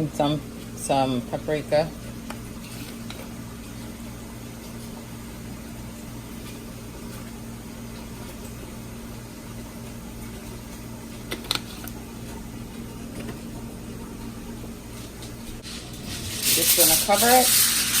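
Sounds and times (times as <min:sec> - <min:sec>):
low mechanical appliance hum: 0:00.0 - 0:18.0.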